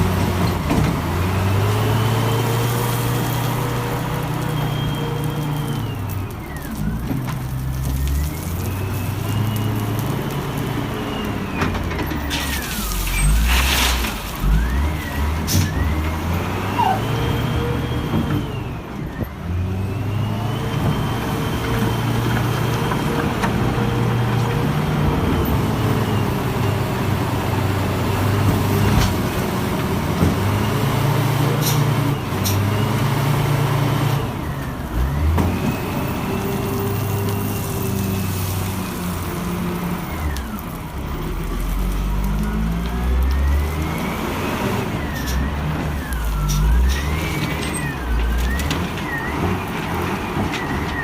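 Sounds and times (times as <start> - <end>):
heavy vehicle engine revving: 0.0 - 51.0.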